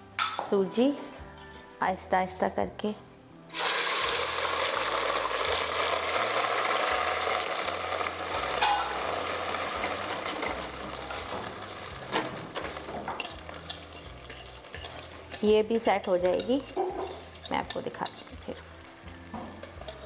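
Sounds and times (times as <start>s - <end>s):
hissing sizzle in hot pot: 3.5s - 20.0s.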